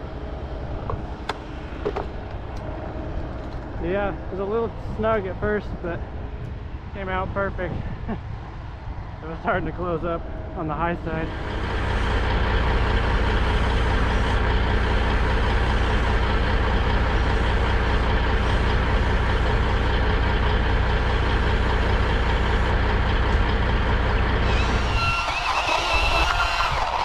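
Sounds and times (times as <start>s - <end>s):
diesel engine running steadily: 0.0s - 27.0s.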